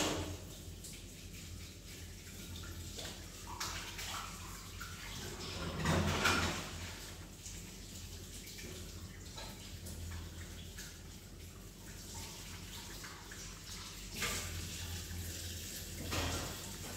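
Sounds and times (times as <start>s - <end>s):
water splashing in a sink: 0.0s - 16.9s.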